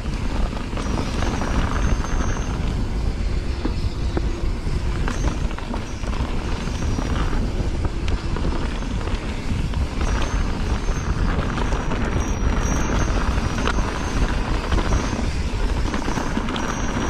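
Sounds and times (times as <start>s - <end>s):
bike clicks and rattles: 0.0s - 17.0s
tyres rumbling over ground: 0.0s - 17.0s
wind rushing over microphone: 0.0s - 17.0s.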